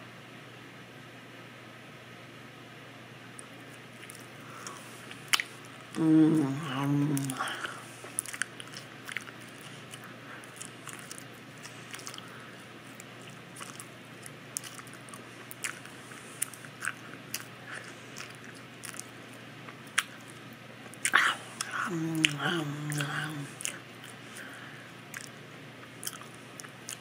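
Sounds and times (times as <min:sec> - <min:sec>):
open-mouthed chewing: 0:03.4 - 0:27.0.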